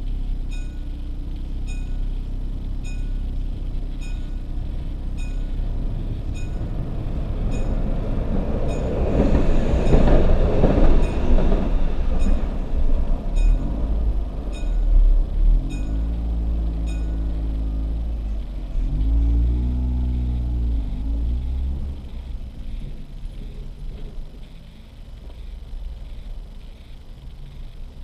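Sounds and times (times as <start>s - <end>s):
electric train passing: 3.9s - 27.3s.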